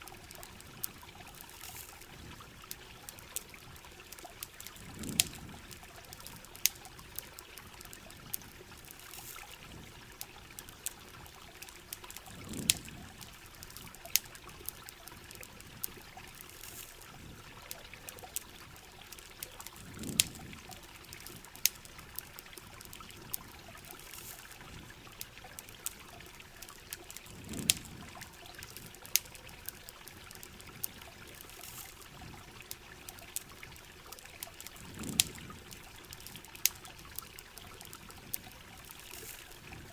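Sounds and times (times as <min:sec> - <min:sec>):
campfire crackling and popping: 0:00.0 - 0:39.9
steady rain: 0:00.0 - 0:39.9
trickling water: 0:00.0 - 0:39.9.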